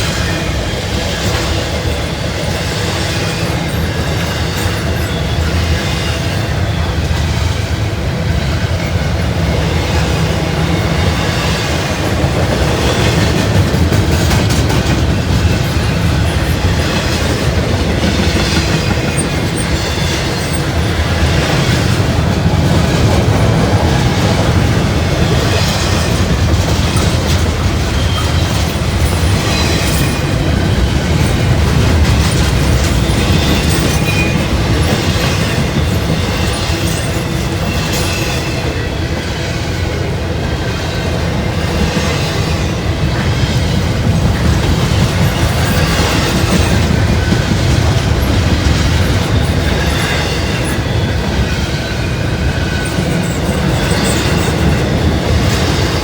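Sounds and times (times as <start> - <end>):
wheels clacking over rail joints: 0.0 - 38.9, 41.0 - 56.0
freight train rumbling past: 0.0 - 56.0.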